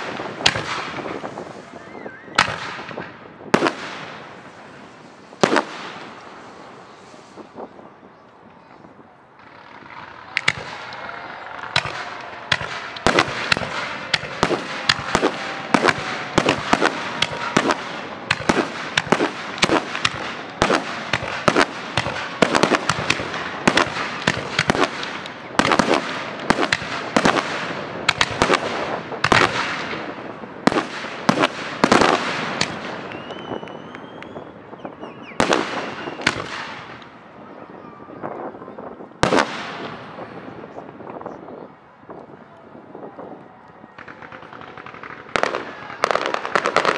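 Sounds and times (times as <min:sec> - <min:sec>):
continuous hiss: 0:00.0 - 0:37.6
faint fireworks whistling: 0:00.0 - 0:46.9
fireworks bangs: 0:00.0 - 0:46.9.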